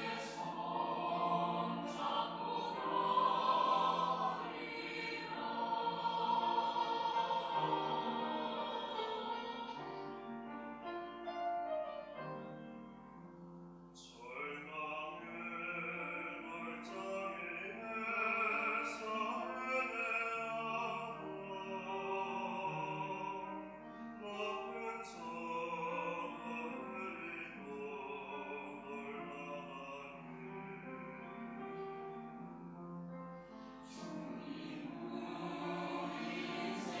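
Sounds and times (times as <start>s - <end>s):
choir singing a hymn: 0.0s - 10.6s, 14.0s - 32.2s, 33.4s - 37.0s
piano accompaniment: 0.0s - 37.0s.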